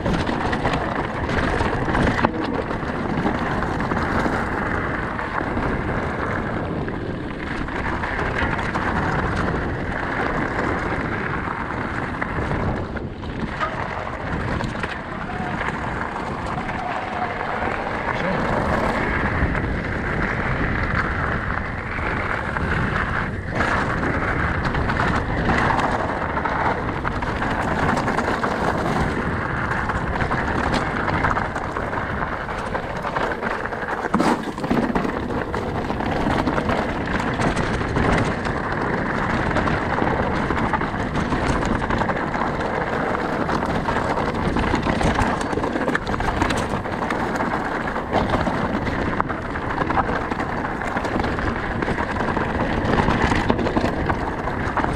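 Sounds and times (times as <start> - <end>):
bike rattling: 0.0 - 54.9
wind rush on microphone: 0.0 - 54.9
tyres crunching on gravel: 0.1 - 54.9.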